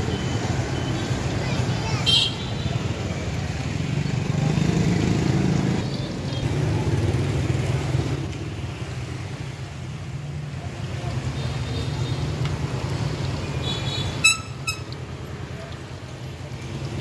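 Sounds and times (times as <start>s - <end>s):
motorbike engines rumbling: 0.0s - 17.0s
street noise: 0.0s - 17.0s.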